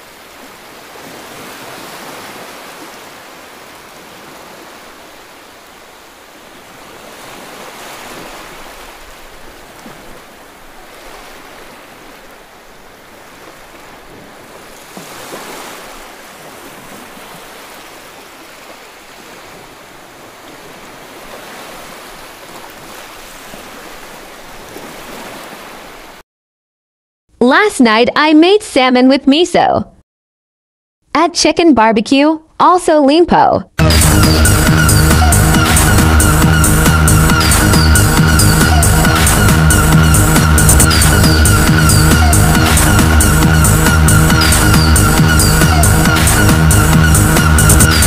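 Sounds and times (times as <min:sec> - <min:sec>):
sea waves washing on shore: 0:00.0 - 0:26.2, 0:33.8 - 0:48.0.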